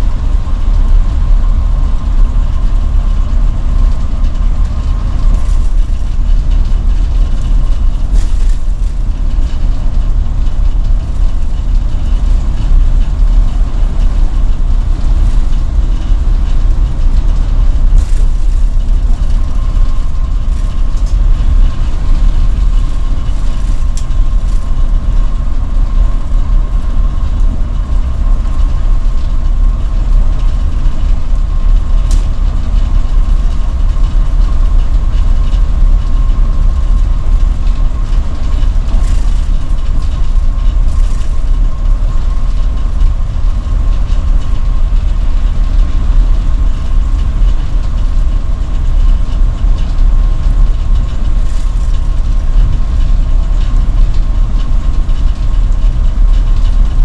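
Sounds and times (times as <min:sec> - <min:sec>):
bus engine rumbling: 0:00.0 - 0:57.0
thin steady whine: 0:00.0 - 0:57.0.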